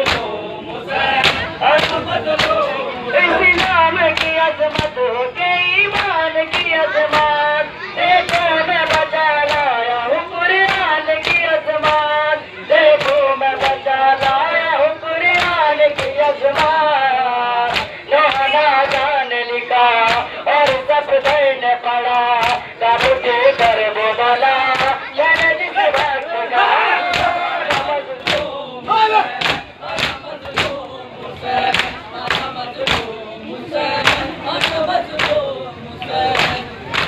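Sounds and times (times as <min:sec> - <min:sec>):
rhythmic chest slapping: 0:00.0 - 0:37.0.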